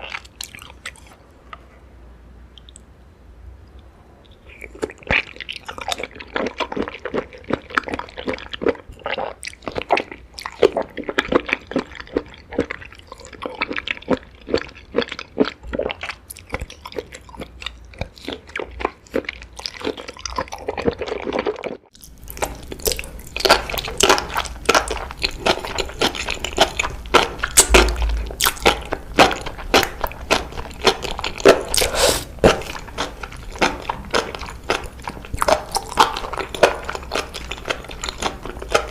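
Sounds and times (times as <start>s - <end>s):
chewing and crunching seaweed: 0.0s - 1.2s, 4.3s - 38.9s.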